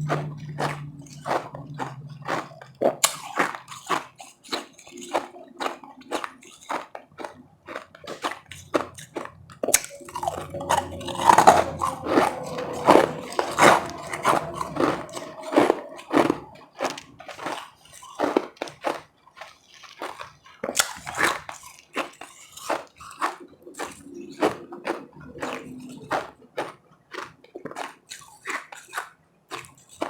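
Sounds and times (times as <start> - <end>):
person crunching ice: 0.0 - 30.0.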